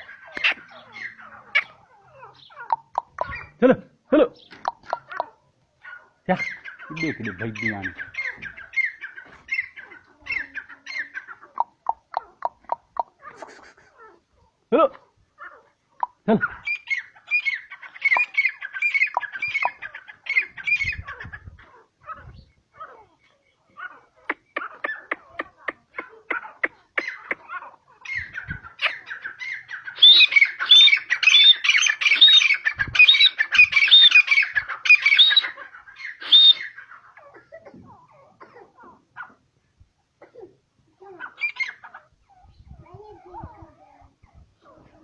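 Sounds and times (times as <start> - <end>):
bird chattering calls: 0.0 - 3.6, 6.3 - 14.1, 16.0 - 22.5, 23.8 - 39.4, 41.0 - 43.7
loud high bird calls: 0.0 - 3.6, 4.4 - 11.6, 16.4 - 25.7, 26.3 - 39.3, 41.1 - 44.0.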